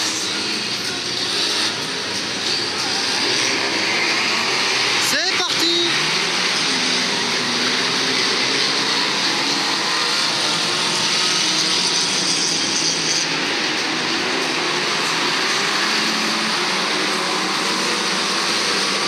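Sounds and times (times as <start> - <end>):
many race car engines: 0.0 - 19.0.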